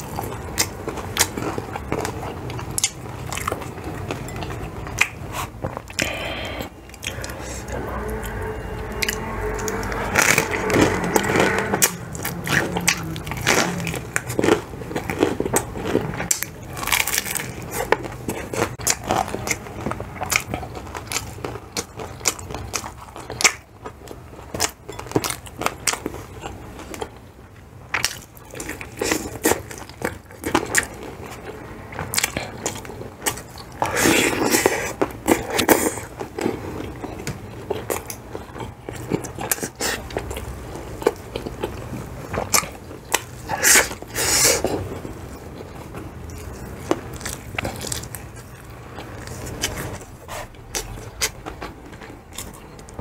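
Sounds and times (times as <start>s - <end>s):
crunching fried chicken: 0.0s - 53.0s.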